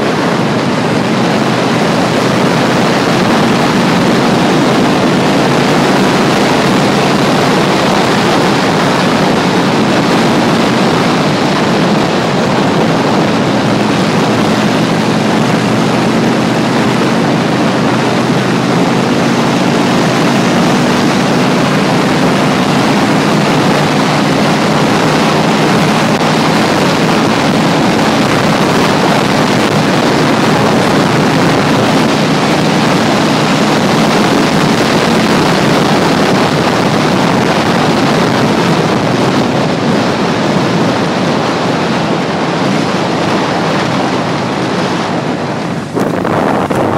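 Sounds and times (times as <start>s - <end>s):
motorcycle engine: 0.0s - 46.9s
wind rushing on microphone: 0.0s - 46.9s.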